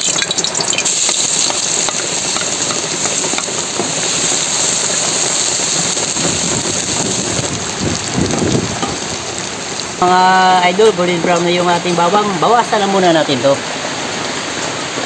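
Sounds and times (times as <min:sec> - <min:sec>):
garlic sizzling in hot oil: 0:00.0 - 0:13.5.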